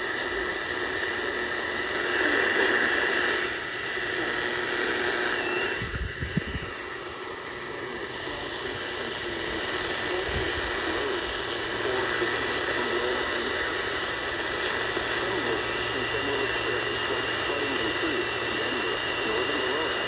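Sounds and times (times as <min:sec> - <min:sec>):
faint garbled radio voice: 0:00.0 - 0:20.0
radio static hiss and crackle: 0:00.0 - 0:20.0.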